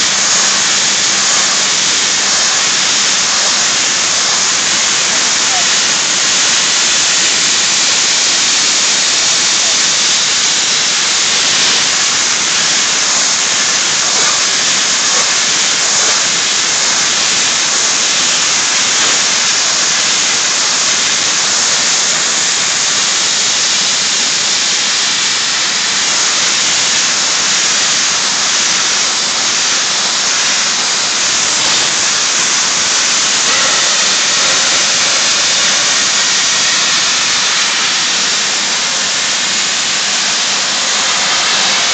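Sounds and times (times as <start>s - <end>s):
blasting nozzle hissing: 0.0s - 41.9s.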